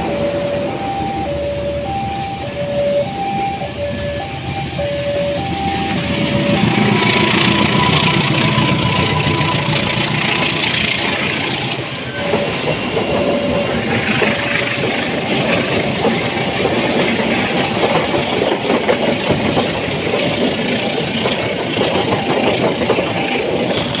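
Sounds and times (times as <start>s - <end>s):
train rumbling past: 0.0s - 24.0s
wheels clattering on rail joints: 2.7s - 24.0s.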